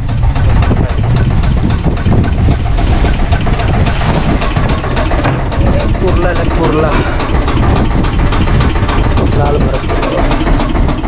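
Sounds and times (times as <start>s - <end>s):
net hauled across deck: 0.0s - 11.0s
wind buffeting microphone: 0.0s - 11.0s.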